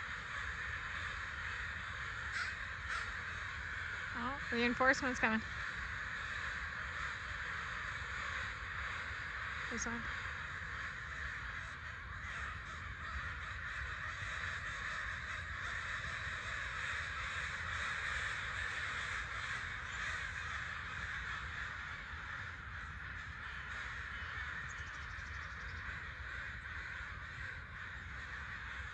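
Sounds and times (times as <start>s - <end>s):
crows cawing: 0.0s - 28.9s.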